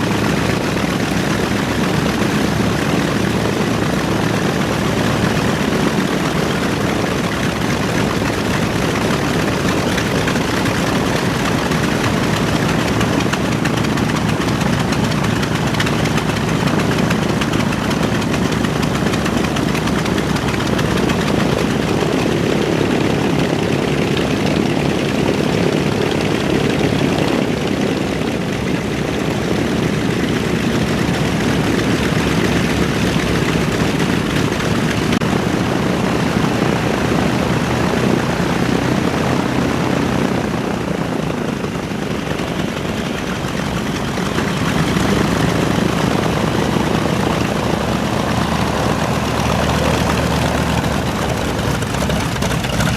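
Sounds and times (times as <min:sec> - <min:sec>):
propeller aircraft engines droning: 0:00.0 - 0:52.9.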